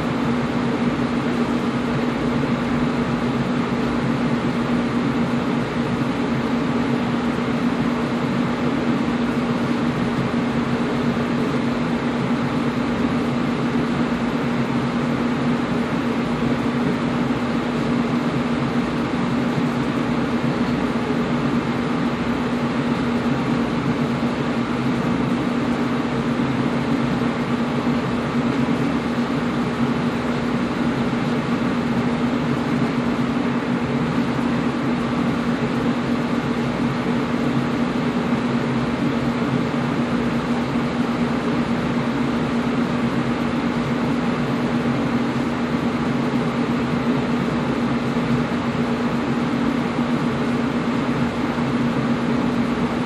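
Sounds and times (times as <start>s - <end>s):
air conditioner running: 0.0s - 53.0s.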